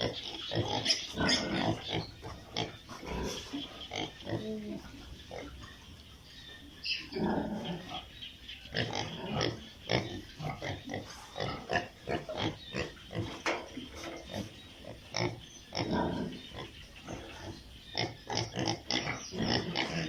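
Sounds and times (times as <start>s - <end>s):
piglets grunting and squealing: 0.0s - 6.0s, 6.6s - 20.0s.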